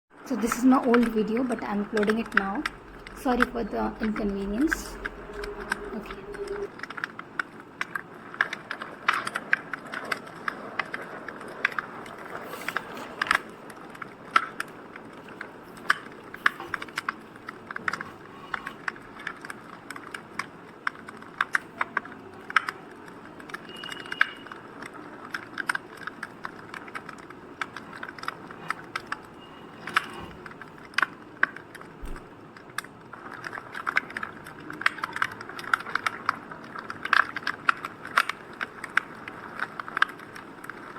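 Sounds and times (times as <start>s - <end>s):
fire crackling and popping: 0.2s - 40.9s.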